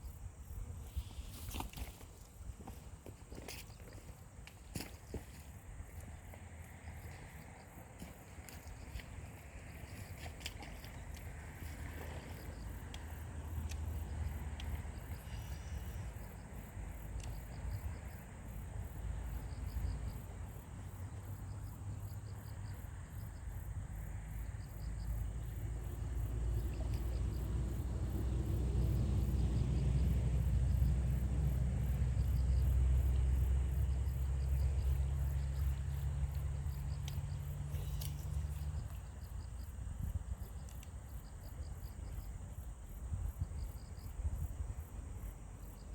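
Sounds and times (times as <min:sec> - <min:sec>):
insects chirping rhythmically: 0:05.0 - 0:45.9.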